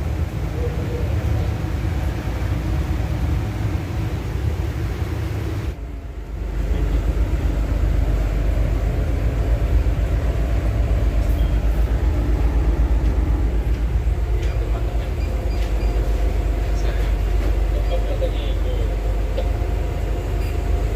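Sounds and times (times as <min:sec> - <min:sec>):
ship engine rumble: 0:00.0 - 0:20.9.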